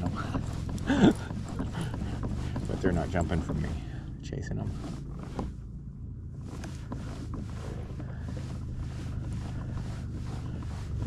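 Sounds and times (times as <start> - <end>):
hull moving through water: 0.0 - 5.7, 6.4 - 11.0.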